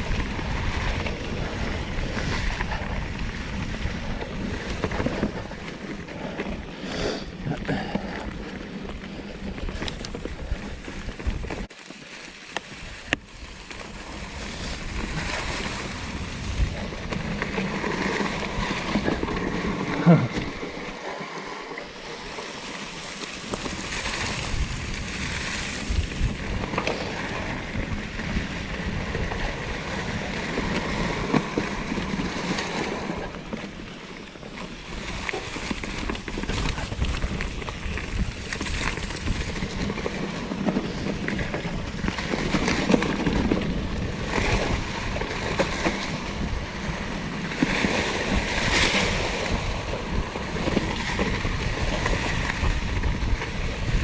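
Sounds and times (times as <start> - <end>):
wind buffeting microphone: 0.0 - 11.7, 12.8 - 21.1, 23.4 - 54.0
bike clicks and rattles: 0.0 - 54.0
bike tyres on dirt trail: 0.0 - 54.0.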